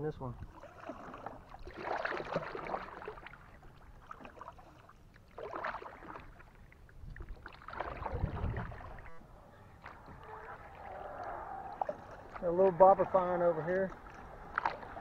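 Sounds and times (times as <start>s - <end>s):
paddle strokes splashing water: 0.2s - 15.0s.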